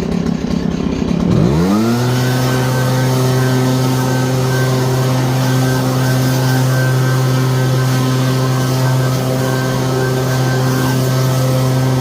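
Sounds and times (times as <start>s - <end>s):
leaf blower engine revving: 0.0s - 12.0s.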